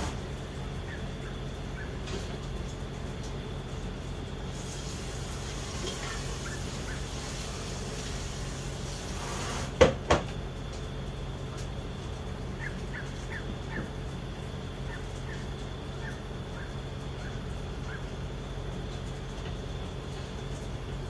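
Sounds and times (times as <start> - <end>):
city hum: 0.0 - 21.0.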